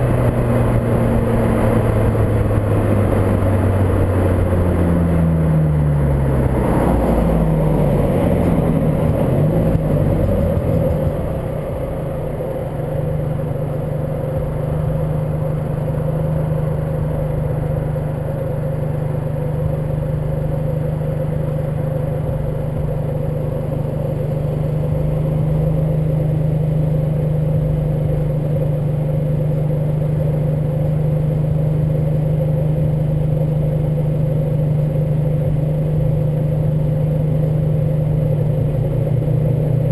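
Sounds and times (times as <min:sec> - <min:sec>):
car engine running: 0:00.0 - 0:39.9
wind and road noise: 0:00.0 - 0:39.9.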